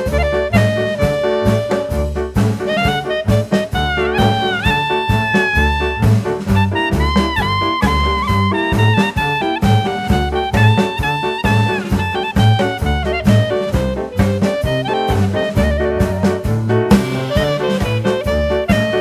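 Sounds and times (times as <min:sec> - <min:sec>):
upbeat jazz music: 0:00.0 - 0:19.0.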